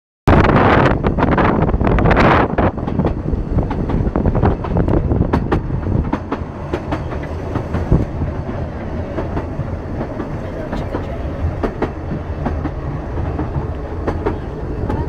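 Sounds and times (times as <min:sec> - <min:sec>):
train wheels rumbling on rail: 0:00.3 - 0:15.0
track and coupling clicks: 0:02.7 - 0:15.0.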